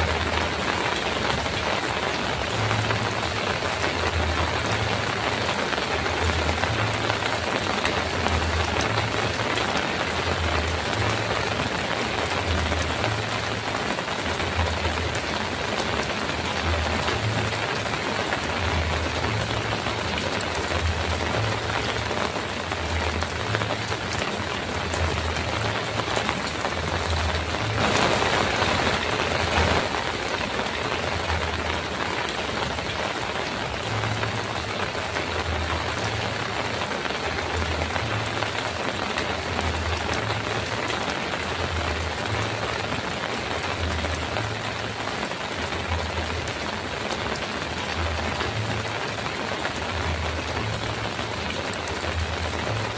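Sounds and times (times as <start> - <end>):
heavy rain on a metal roof: 0.0 - 52.9.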